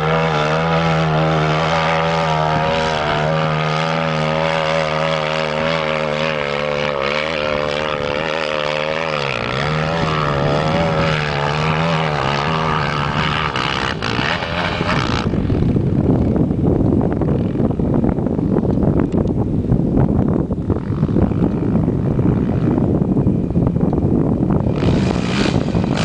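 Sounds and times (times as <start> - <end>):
quad bike engine revving: 0.0 - 18.1, 20.6 - 23.0, 24.4 - 26.0.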